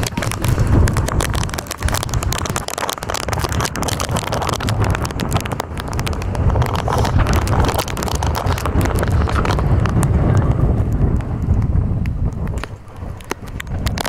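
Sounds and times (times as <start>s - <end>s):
crackling and tapping: 0.0s - 14.0s
wind buffeting microphone: 0.0s - 14.0s.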